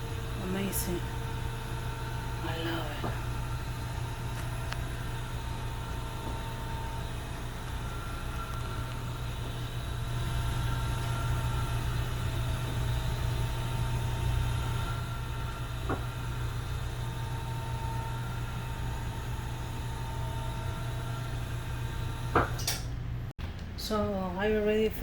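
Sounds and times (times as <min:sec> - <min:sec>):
faint whine tones: 0:00.0 - 0:22.3
low mechanical hum: 0:00.0 - 0:25.0.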